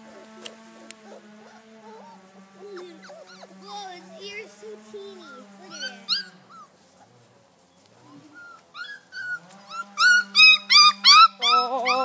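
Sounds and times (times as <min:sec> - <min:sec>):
puppies yelping: 0:00.1 - 0:12.0.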